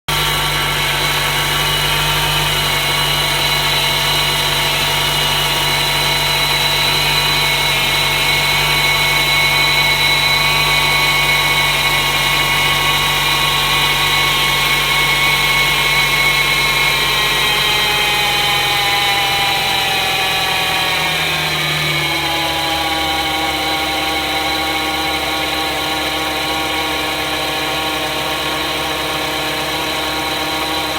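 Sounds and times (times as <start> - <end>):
car engine idling fast: 0.1 - 30.9
high whining compressor: 0.1 - 30.9.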